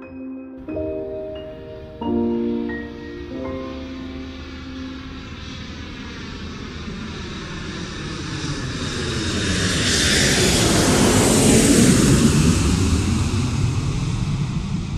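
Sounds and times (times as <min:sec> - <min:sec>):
airplane flying past: 0:00.7 - 0:14.9.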